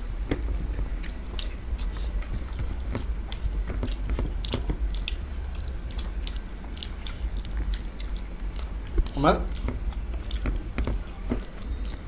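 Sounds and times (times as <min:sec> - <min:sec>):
people chewing food: 0:00.0 - 0:12.0
steady low hum: 0:00.0 - 0:12.0.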